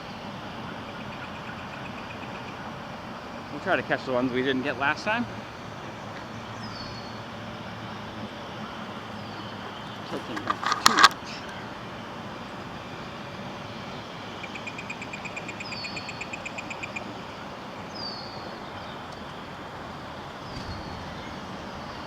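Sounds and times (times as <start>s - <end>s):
city traffic hum: 0.0s - 22.0s.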